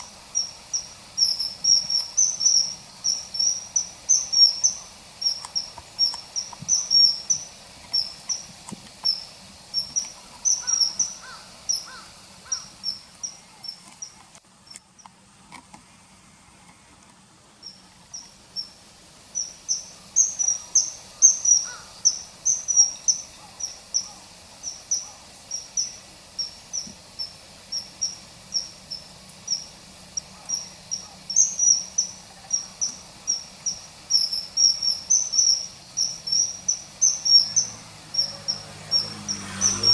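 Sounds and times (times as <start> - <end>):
kingfisher high piercing whistles: 0.0 - 13.8, 17.7 - 29.8, 30.4 - 39.9.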